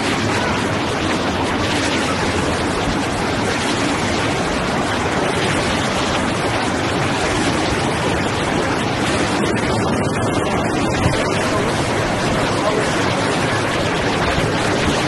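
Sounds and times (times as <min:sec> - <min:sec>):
machinery and water rushing: 0:00.0 - 0:15.0.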